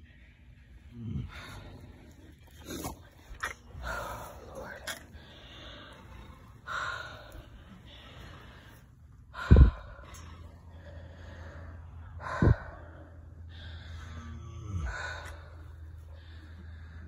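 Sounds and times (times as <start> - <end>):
horses breathing hard: 0.0 - 17.0
low steady hum: 0.0 - 17.0.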